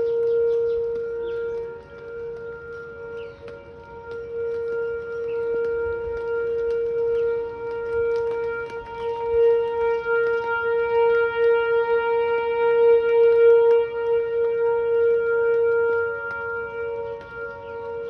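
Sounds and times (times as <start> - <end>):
outdoor warning siren steady tone: 0.0 - 18.0.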